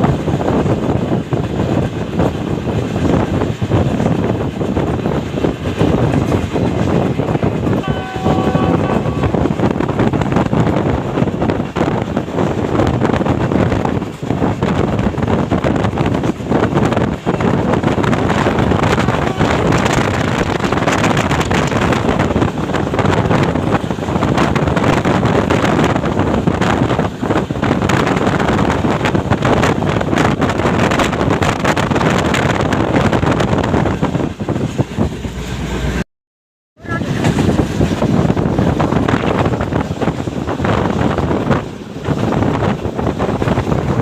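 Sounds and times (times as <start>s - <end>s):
moving train rushing: 0.0s - 36.0s, 36.8s - 44.0s
wind buffeting microphone: 0.0s - 36.0s, 36.8s - 44.0s.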